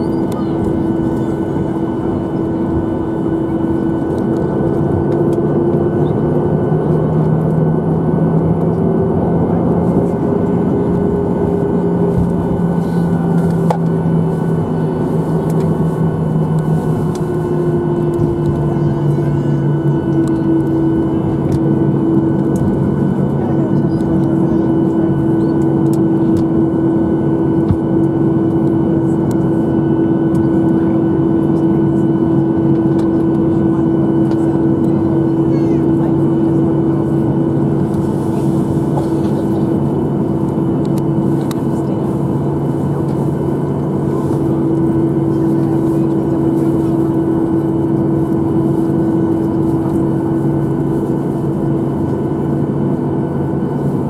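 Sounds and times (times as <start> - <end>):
jet engines idling: 0.0 - 54.0.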